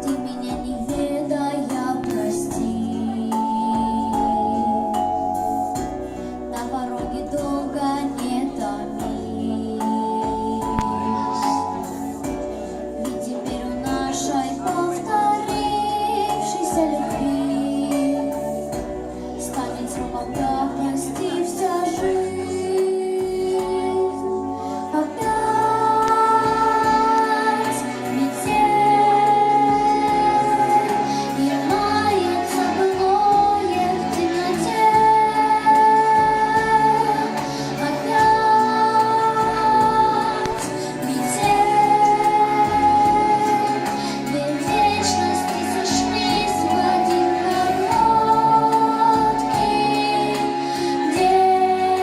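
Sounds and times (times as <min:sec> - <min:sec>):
backing track: 0:00.0 - 0:52.0
girl singing pop ballad: 0:00.0 - 0:52.0.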